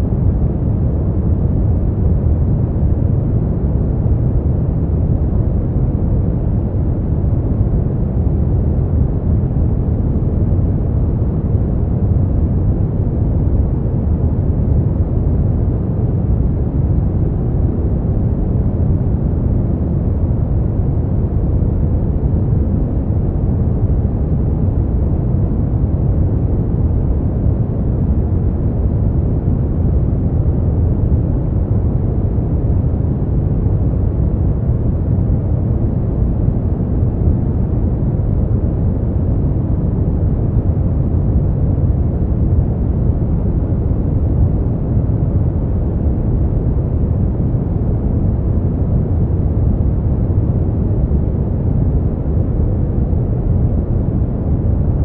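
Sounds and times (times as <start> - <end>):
brown noise: 0.0 - 55.0.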